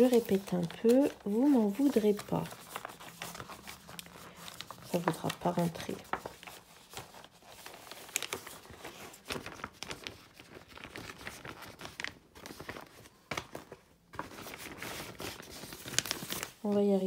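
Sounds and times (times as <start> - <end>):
plastic and paper crinkling: 0.0 - 17.0.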